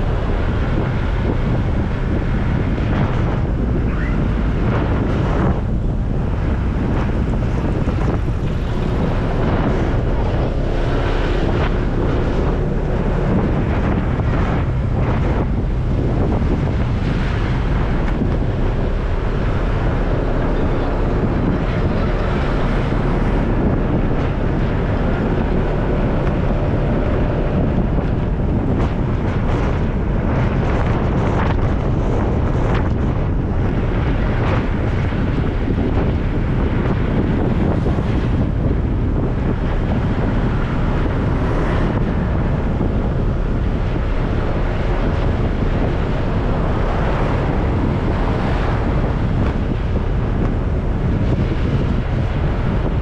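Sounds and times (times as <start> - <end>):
scooter engine rumble: 0.0 - 53.0
wind buffeting microphone: 0.0 - 53.0.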